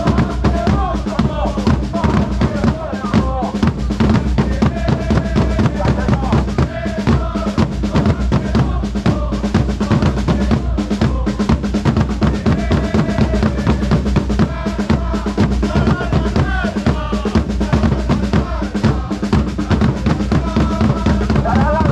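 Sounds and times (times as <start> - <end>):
crowd singing a chant: 0.0 - 21.9
snare and bass drums beating: 0.0 - 21.9.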